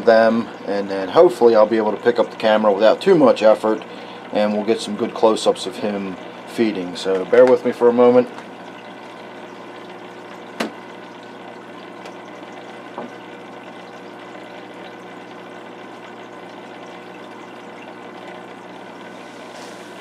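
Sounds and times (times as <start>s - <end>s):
aquarium filter water hiss: 0.0s - 20.0s.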